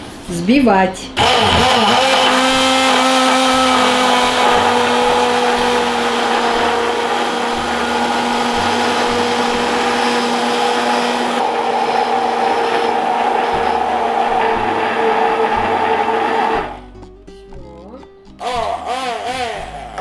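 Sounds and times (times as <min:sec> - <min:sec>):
immersion blender running: 0:01.2 - 0:16.9, 0:18.9 - 0:20.0.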